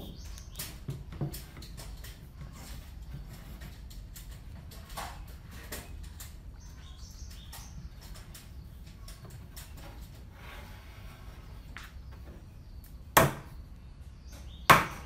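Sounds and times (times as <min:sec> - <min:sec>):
hand tools knocking and scraping wood: 0:00.0 - 0:13.6, 0:14.4 - 0:15.0.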